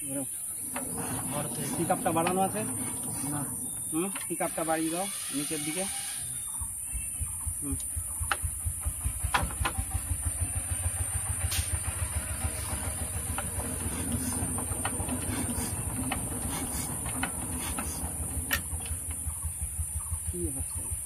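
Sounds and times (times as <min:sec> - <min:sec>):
diesel engine thumping: 0:00.3 - 0:04.8, 0:06.5 - 0:21.0.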